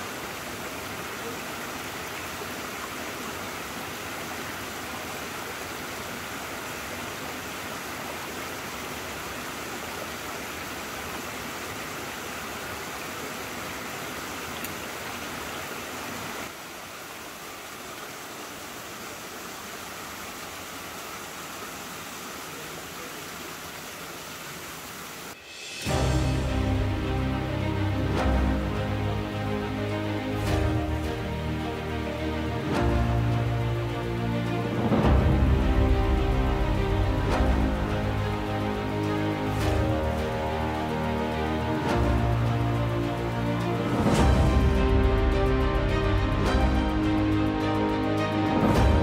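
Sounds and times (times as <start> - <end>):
mountain stream rushing: 0.0 - 49.0.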